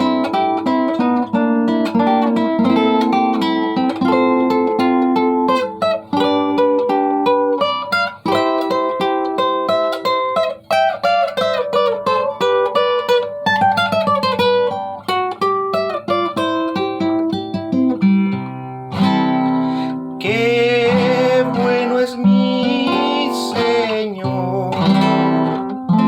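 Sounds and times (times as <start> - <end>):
small guitar picked melody: 0.0 - 26.0.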